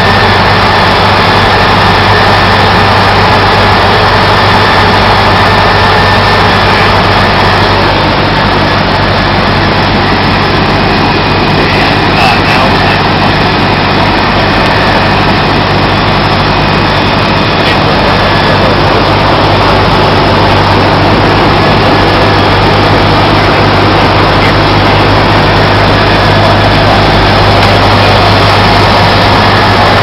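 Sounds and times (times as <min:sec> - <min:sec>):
propeller plane engine droning: 0:00.0 - 0:30.0.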